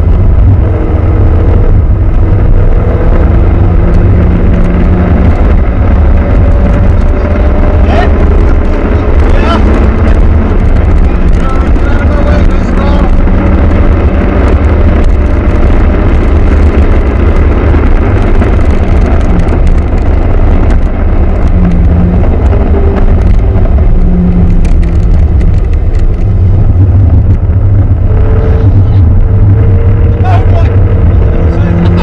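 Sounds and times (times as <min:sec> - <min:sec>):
car engine revving through gears: 0:00.0 - 0:32.0
road noise: 0:00.0 - 0:32.0.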